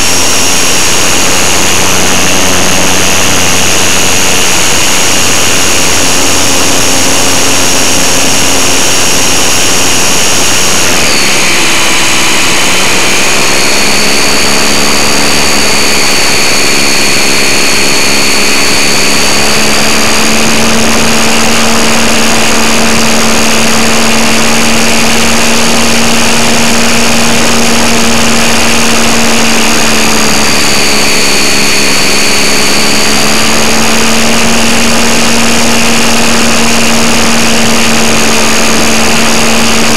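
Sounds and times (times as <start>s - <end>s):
model plane electric motor drone: 0.0s - 39.9s.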